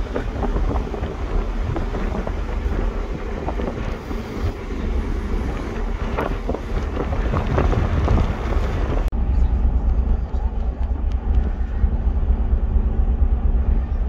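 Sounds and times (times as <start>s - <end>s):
heavy low rumble: 0.0s - 14.0s
wind buffeting microphone: 0.0s - 14.0s.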